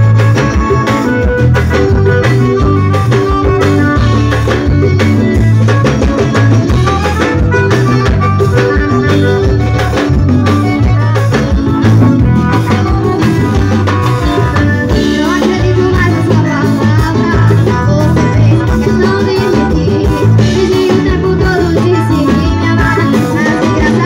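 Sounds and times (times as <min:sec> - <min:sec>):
band music with drums guitar bass: 0:00.0 - 0:24.0.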